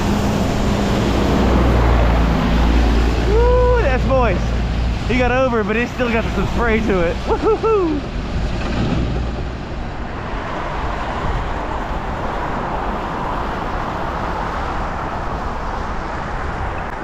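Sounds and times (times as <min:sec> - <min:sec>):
low wind rumble on microphone: 0:00.0 - 0:17.0
tyres hissing on wet road: 0:00.0 - 0:17.0.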